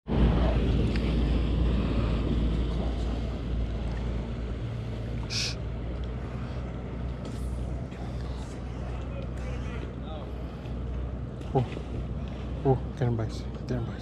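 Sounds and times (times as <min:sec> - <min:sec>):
motorboat engine humming: 0:00.0 - 0:14.0.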